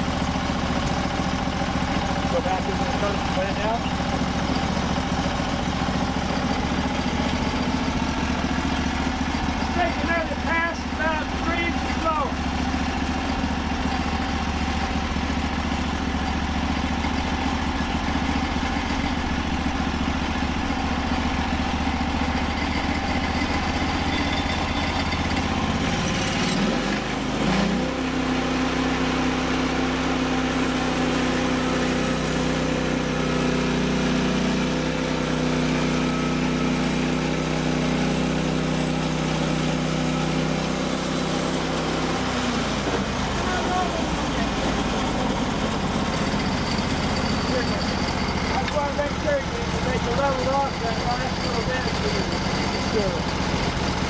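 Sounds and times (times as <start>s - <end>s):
sawmill engine idling and revving: 0.0s - 54.0s.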